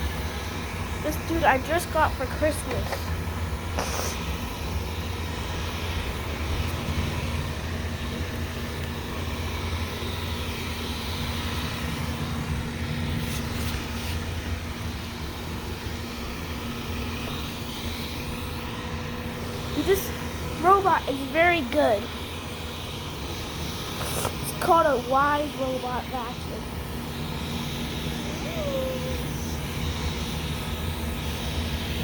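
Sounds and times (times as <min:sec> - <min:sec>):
robot vacuum humming: 0:00.0 - 0:32.0.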